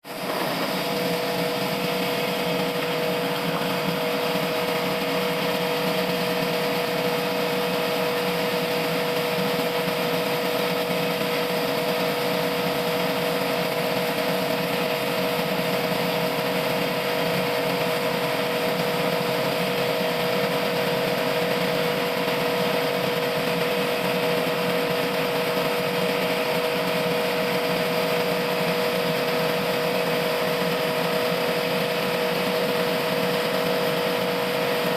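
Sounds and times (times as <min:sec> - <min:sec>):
sawmill machinery whine: 0:00.0 - 0:34.9.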